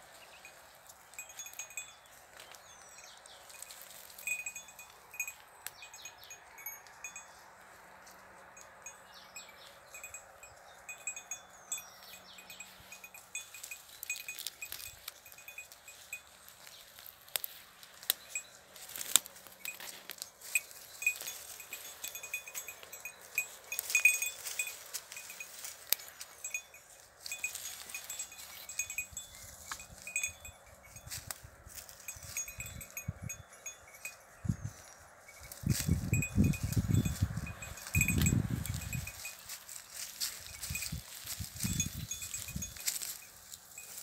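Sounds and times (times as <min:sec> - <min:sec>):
goat bell clinking: 0:00.0 - 0:44.0.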